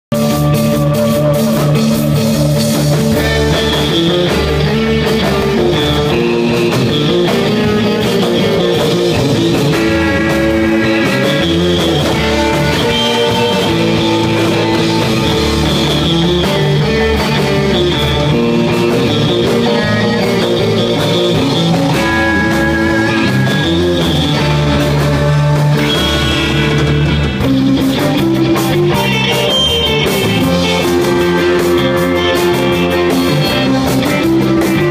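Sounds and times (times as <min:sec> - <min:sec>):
electric guitar fast melody: 0:00.1 - 0:34.9
surf rock band playing: 0:00.1 - 0:34.9.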